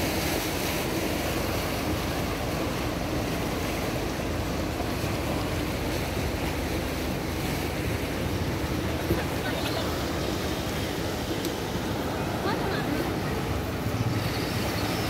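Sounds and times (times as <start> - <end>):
turbulent floodwater rushing: 0.0 - 15.0
waves breaking: 0.0 - 15.0.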